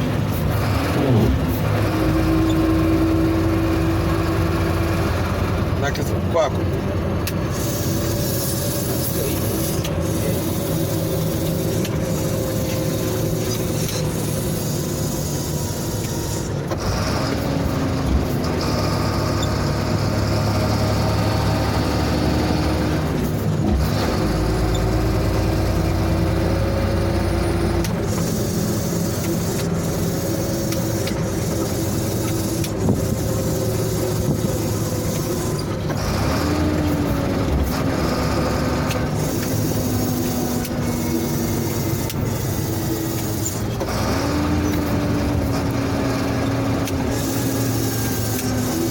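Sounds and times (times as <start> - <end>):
truck diesel engine shifting gears: 0.0 - 48.9.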